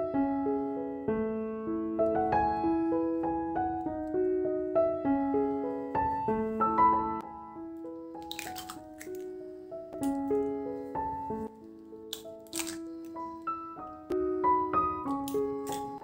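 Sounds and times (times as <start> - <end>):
piano melody: 0.0 - 16.0.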